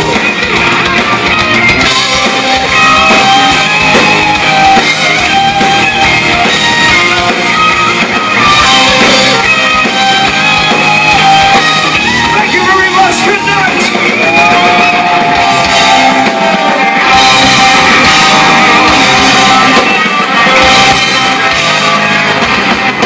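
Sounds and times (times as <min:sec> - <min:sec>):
bass guitar: 0:00.0 - 0:23.0
distorted electric guitars: 0:00.0 - 0:23.0
drum kit: 0:00.0 - 0:23.0.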